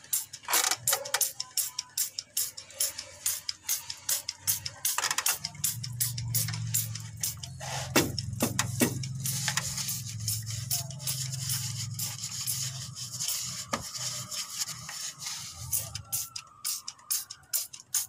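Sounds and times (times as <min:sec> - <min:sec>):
scrubbing greasy metal: 0:00.0 - 0:18.0
spray bottle squirting: 0:00.0 - 0:18.0.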